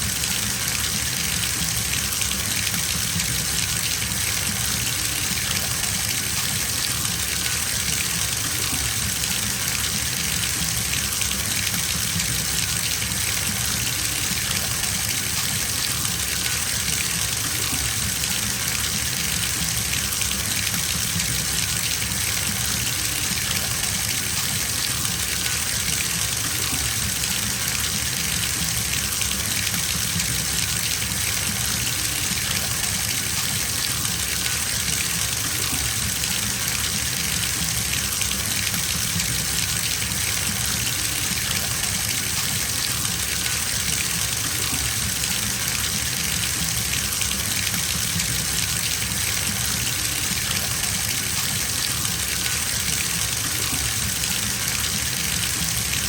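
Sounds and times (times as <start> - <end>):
tap water filling bathtub: 0.0 - 56.0.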